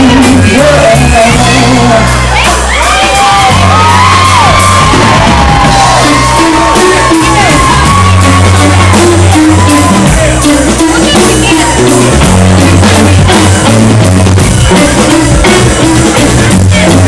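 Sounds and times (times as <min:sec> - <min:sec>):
drum kit: 0:00.0 - 0:17.0
electric bass: 0:00.0 - 0:17.0
electric guitars: 0:00.0 - 0:17.0.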